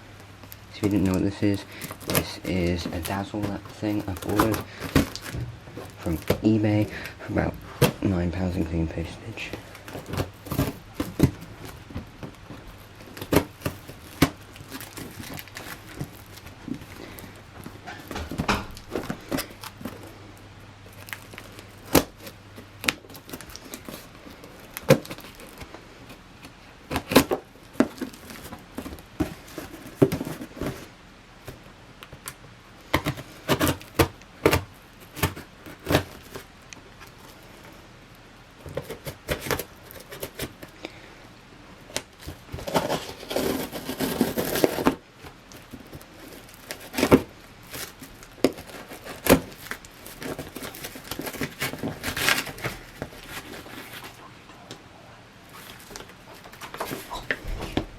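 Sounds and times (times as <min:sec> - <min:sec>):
packaging rustling and tearing: 0:00.4 - 0:37.8, 0:38.5 - 0:41.0, 0:41.8 - 0:54.4, 0:55.4 - 0:57.9.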